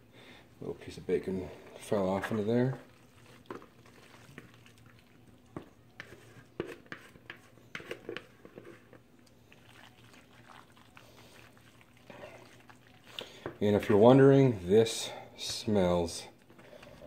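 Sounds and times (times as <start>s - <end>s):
wet squishes of food mixture: 1.0s - 15.6s.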